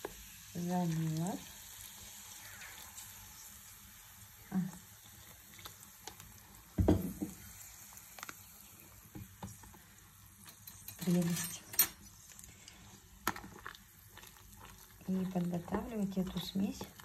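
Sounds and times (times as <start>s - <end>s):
pieces hissing and crackling: 1.9s - 6.8s, 7.4s - 17.0s.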